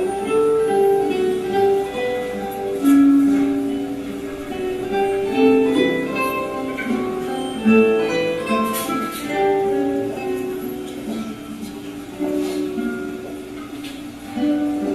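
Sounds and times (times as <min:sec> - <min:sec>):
guitars plucking a melody: 0:00.0 - 0:14.9.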